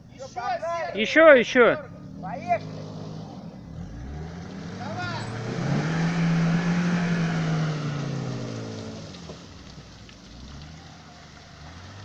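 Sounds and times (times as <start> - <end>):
car engine revving then idling: 1.4 - 12.0.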